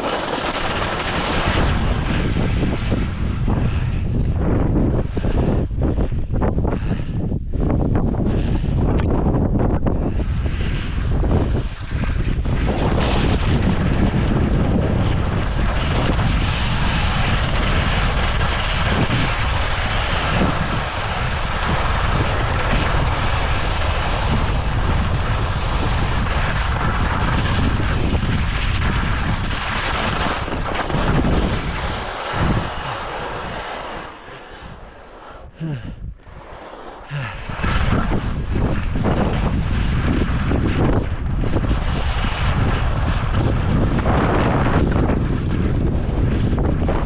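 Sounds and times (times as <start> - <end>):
strong wind buffeting microphone: 0.0 - 47.0.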